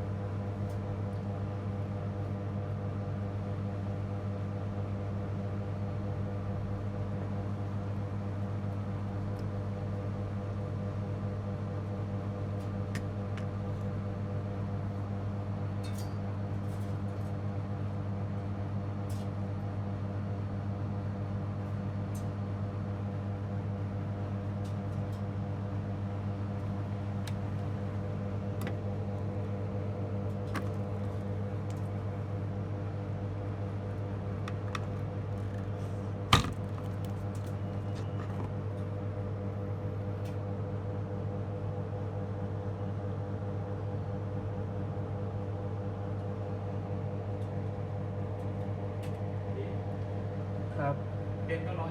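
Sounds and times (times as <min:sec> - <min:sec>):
low electrical hum: 0:00.0 - 0:51.9.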